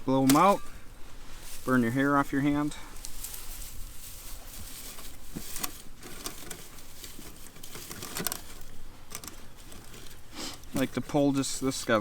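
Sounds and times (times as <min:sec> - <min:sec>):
pine needles rustling and crackling: 0:00.0 - 0:12.0.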